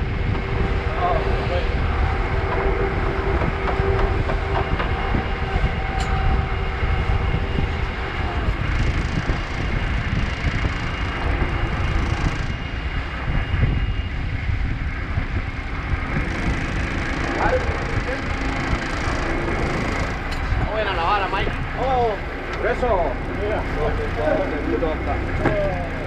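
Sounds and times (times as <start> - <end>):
boat engine rumbling: 0.0 - 26.0
faint engine whine: 0.0 - 26.0.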